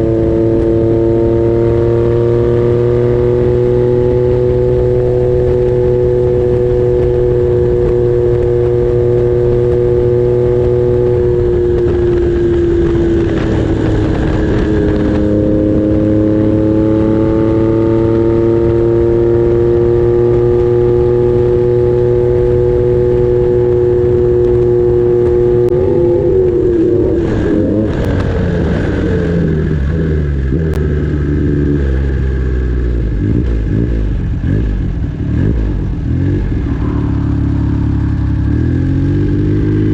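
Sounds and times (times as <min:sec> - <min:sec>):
three-cylinder motorcycle engine running: 0:00.0 - 0:39.9.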